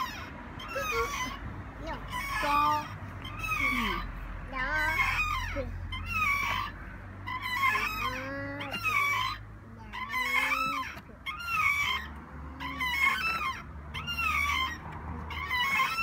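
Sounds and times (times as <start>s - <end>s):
swing squeaking: 0.0s - 16.0s.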